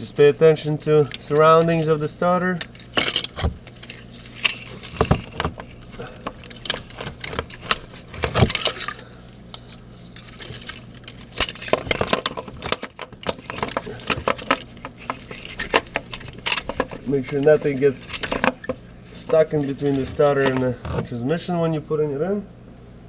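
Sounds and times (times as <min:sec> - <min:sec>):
steady low hum: 0:00.0 - 0:23.0
metallic clinks and knocks: 0:01.0 - 0:21.1.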